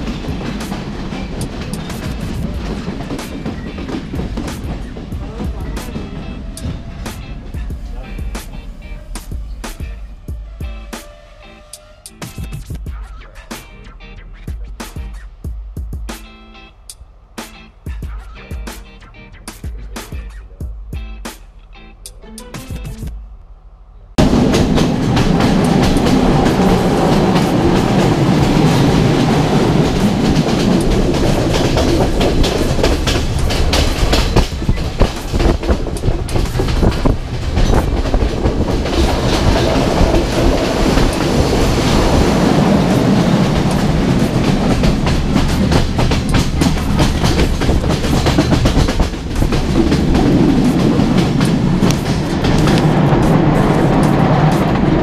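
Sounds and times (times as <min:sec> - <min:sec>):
clickety-clack over rail joints: 0:00.0 - 0:16.4, 0:17.4 - 0:21.5, 0:24.2 - 0:55.0
train wheels rumbling on rail: 0:00.0 - 0:55.0.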